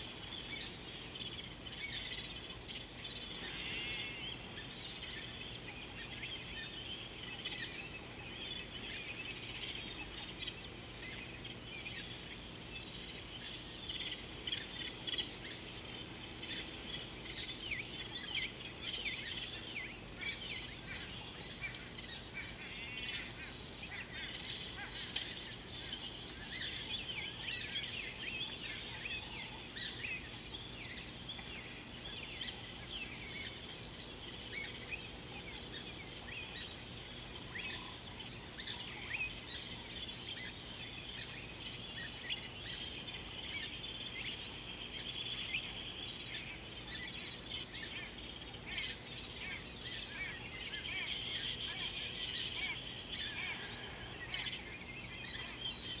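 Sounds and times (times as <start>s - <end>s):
faint low hum: 0.0s - 56.0s
many birds chirping: 0.0s - 56.0s.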